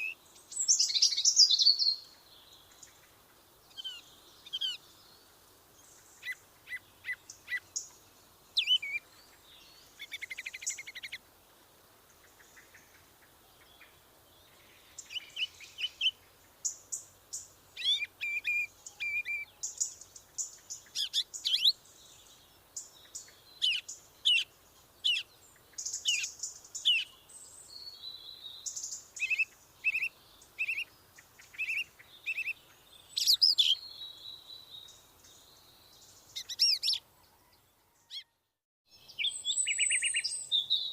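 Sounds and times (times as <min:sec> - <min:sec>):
songbirds chirping and whistling: 0:00.0 - 0:03.1, 0:03.7 - 0:11.2, 0:12.2 - 0:40.9.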